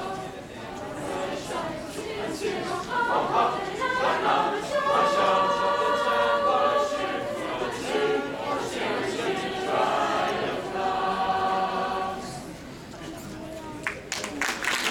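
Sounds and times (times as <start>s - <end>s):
choir singing long notes: 0.0s - 12.7s.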